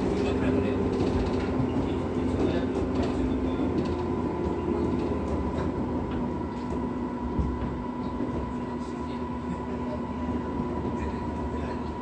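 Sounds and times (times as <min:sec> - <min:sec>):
electric train motors humming: 0:00.0 - 0:12.0
wheels rumbling on rails: 0:00.0 - 0:12.0.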